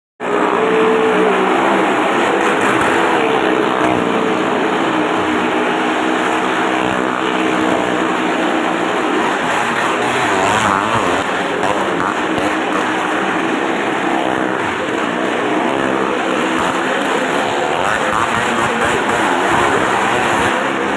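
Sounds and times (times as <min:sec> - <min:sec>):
motorcycle engines revving high: 0:00.2 - 0:20.9.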